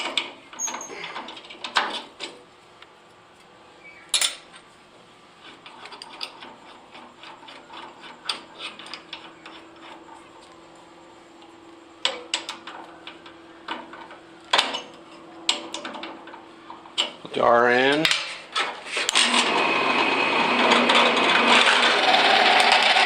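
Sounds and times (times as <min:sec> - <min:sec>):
faint steady hum: 0:00.0 - 0:19.6.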